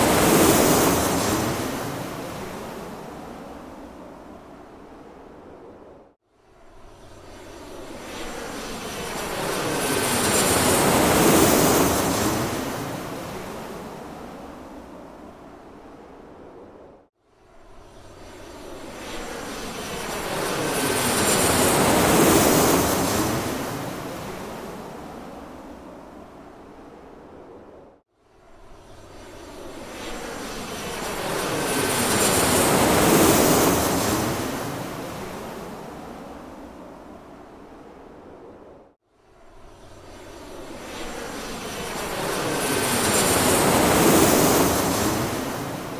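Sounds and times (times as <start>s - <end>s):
airplane passing by: 0.0s - 45.9s.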